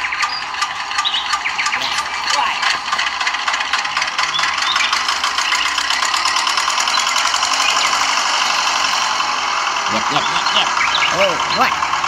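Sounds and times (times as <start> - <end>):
model diesel engine ticking: 0.0 - 12.0.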